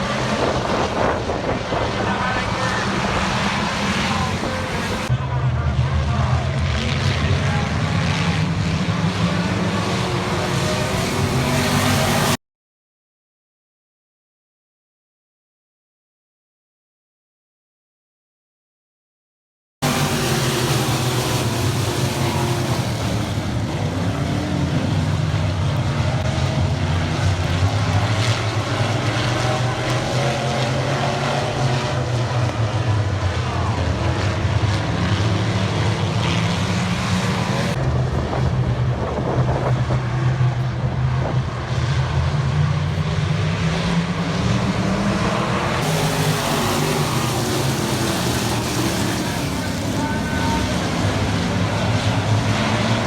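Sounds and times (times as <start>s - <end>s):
race car engines droning: 0.0s - 12.4s, 19.8s - 53.0s.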